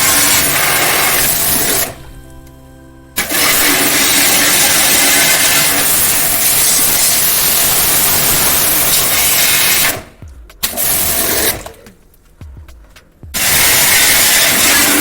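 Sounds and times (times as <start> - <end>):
loud rushing hiss: 0.0 - 2.2, 3.2 - 11.8, 13.4 - 15.0.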